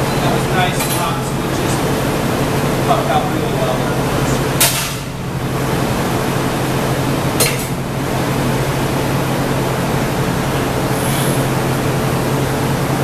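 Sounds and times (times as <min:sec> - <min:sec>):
fans humming: 0:00.0 - 0:13.0
gas furnace roaring: 0:00.0 - 0:13.0.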